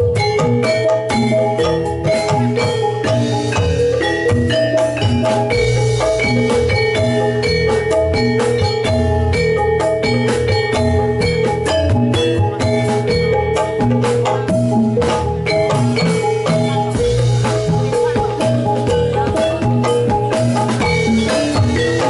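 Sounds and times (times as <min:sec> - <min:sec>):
metal mallet instruments playing: 0:00.0 - 0:22.0.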